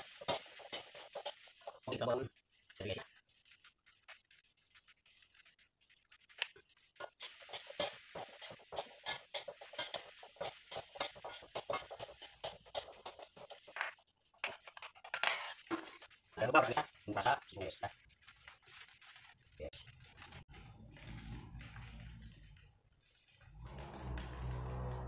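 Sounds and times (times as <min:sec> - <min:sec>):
spatula scraping rice in pan: 0:00.0 - 0:22.6.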